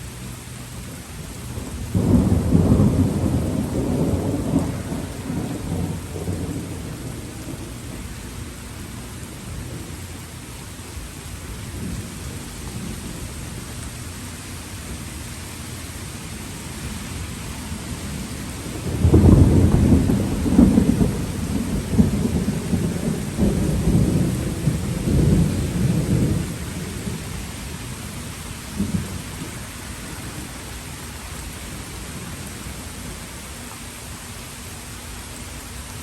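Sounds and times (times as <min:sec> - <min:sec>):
steady rain: 0:00.0 - 0:36.0
low rumble of thunder: 0:00.9 - 0:33.3.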